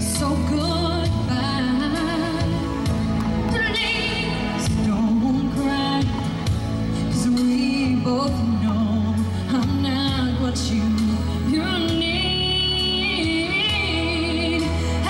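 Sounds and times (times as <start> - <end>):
instrumental accompaniment with bass: 0.0 - 15.0
woman singing into a microphone: 0.0 - 15.0.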